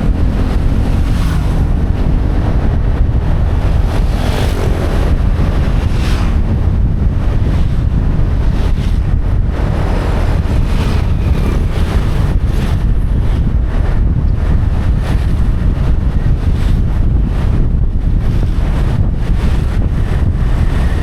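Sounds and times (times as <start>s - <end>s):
motorbike engine running: 0.0s - 21.0s
wind rushing over microphone: 0.0s - 21.0s.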